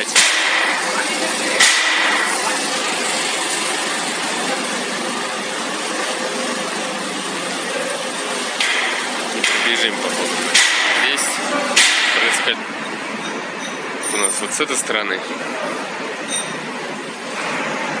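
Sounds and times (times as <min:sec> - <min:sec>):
steady mechanical rushing noise: 0:00.0 - 0:18.0.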